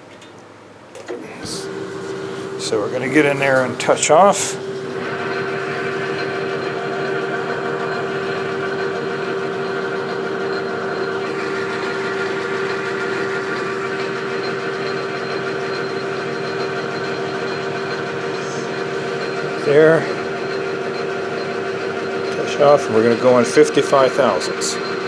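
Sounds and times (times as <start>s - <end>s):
metal lathe humming: 0.0s - 25.0s.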